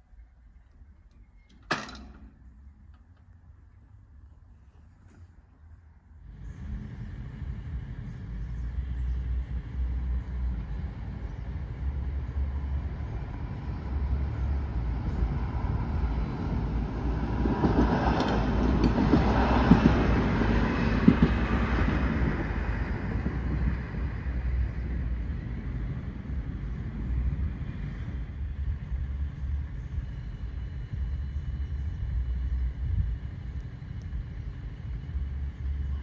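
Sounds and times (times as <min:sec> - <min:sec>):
train rumble: 0:00.0 - 0:36.0
wind on microphone: 0:06.3 - 0:36.0.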